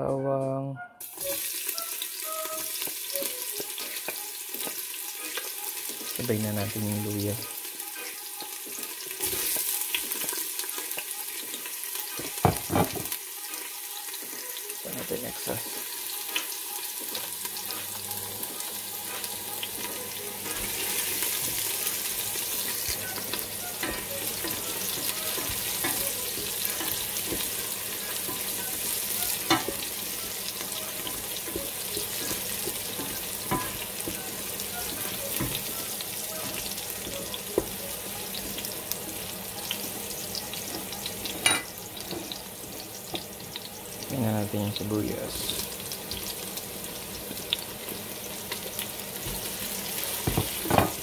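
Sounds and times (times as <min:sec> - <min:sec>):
garlic sizzling in hot oil: 0:01.0 - 0:51.0.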